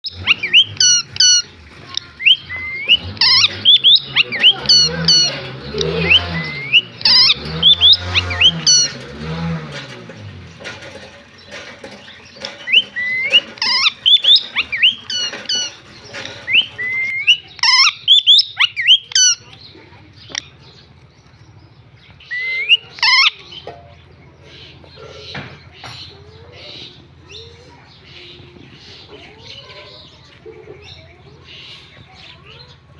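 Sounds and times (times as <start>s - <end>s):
parrot squawking and chirping: 0.0s - 9.8s, 10.6s - 21.4s, 22.2s - 31.8s.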